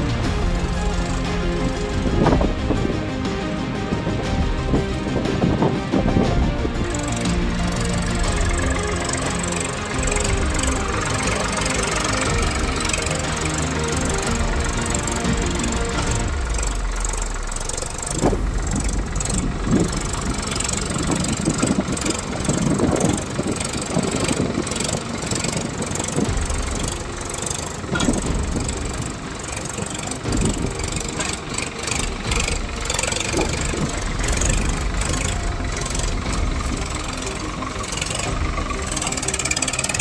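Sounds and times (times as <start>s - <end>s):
irregular knocks and clatter: 0.0s - 40.0s
tractor diesel engine running: 0.0s - 40.0s.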